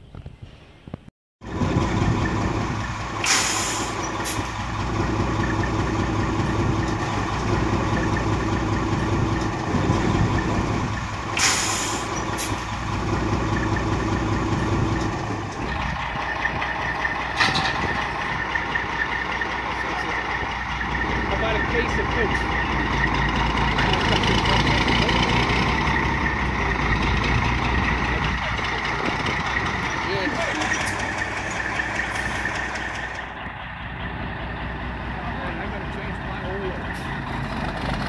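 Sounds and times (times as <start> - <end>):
truck engine running: 1.4 - 38.0.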